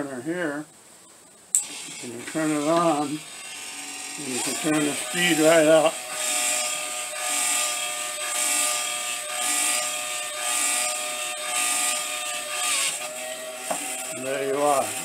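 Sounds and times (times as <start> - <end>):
electric motor whine: 1.6 - 15.0.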